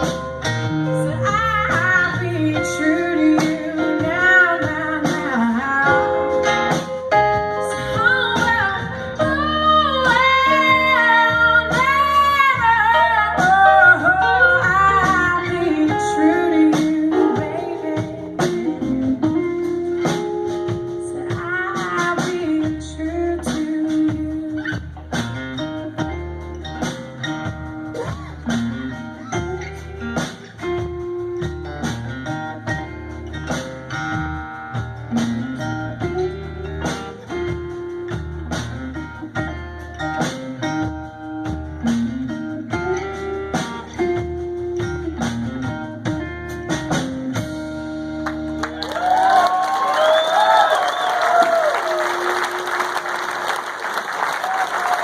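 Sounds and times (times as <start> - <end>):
blues guitars: 0.0 - 55.0
drums keeping the beat: 0.0 - 55.0.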